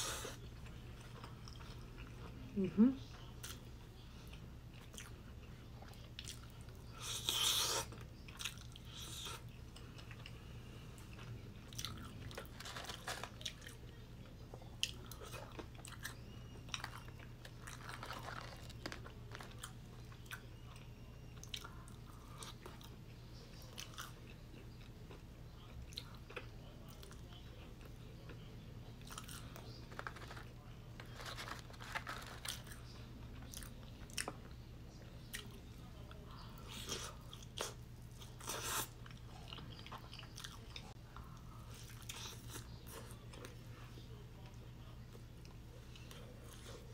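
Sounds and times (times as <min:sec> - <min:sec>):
crunching and chewing: 0:00.0 - 0:46.9
faint low hum: 0:00.0 - 0:46.9.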